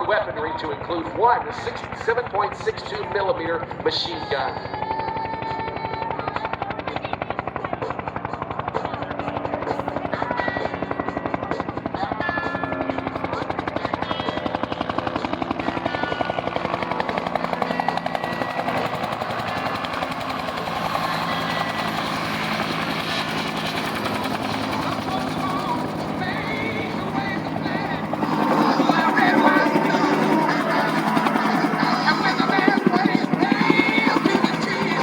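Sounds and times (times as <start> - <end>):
helicopter engine tone: 0.0 - 35.0
helicopter rotor beating: 0.0 - 35.0.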